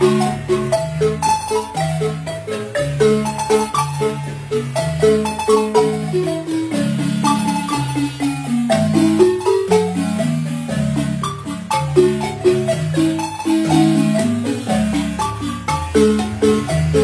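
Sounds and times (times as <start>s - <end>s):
marimba played with mallets: 0.0s - 17.0s.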